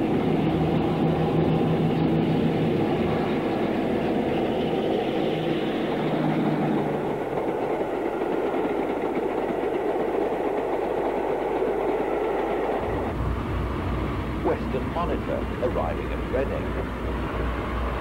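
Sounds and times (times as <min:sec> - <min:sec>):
diesel locomotive engine: 0:00.0 - 0:18.0
moving train rumble: 0:00.0 - 0:18.0.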